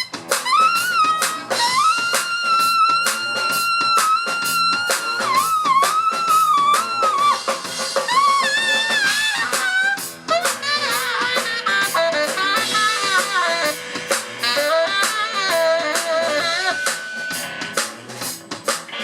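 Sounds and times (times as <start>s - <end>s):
saxophone solo: 0.0s - 17.8s
drum kit: 0.0s - 19.0s.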